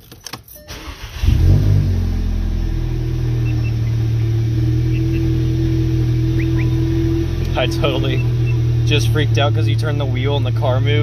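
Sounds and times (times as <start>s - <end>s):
car engine idling: 0.7s - 11.0s.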